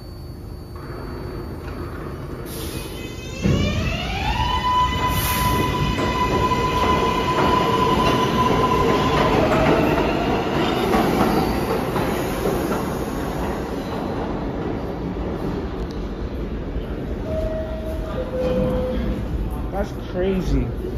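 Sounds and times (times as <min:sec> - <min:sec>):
subway train rumble: 0:00.0 - 0:20.9.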